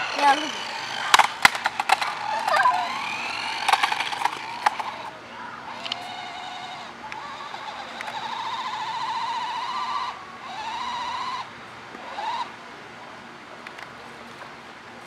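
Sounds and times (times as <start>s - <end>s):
toy car motor whining: 0.0s - 12.5s.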